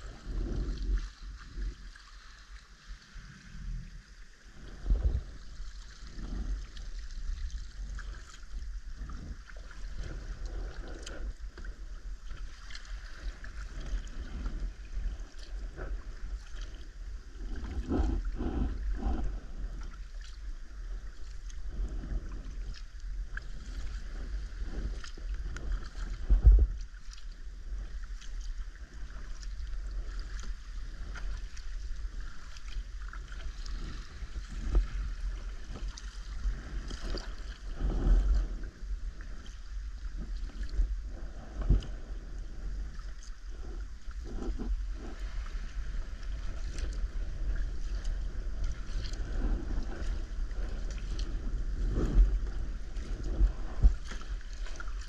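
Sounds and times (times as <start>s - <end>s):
paddle splashing water: 0.0s - 55.0s
steady low rumble: 0.0s - 55.0s
water lapping against hull: 0.0s - 55.0s.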